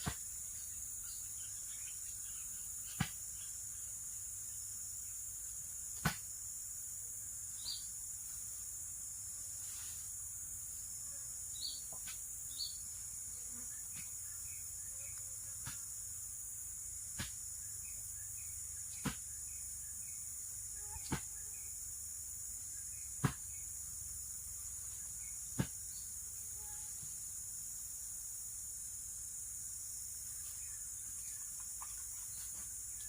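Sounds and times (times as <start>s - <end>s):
crickets chorus: 0.0s - 33.0s
short insect chirps: 0.0s - 33.0s.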